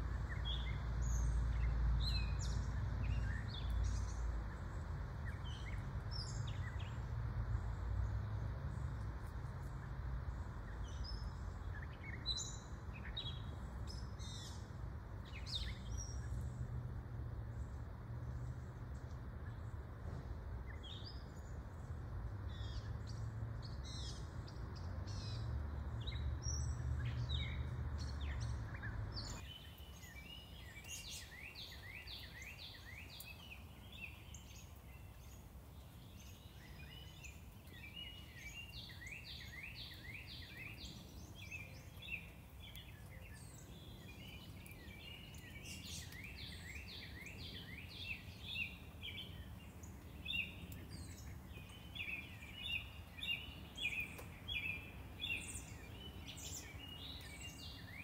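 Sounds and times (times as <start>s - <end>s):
low traffic rumble: 0.0s - 58.0s
songbirds singing: 0.0s - 58.0s.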